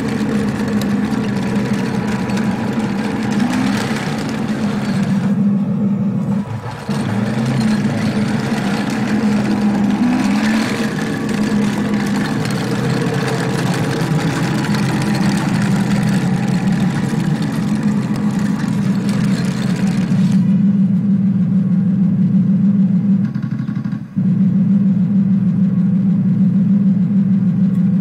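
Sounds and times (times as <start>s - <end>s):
model tank engine running: 0.0s - 28.0s.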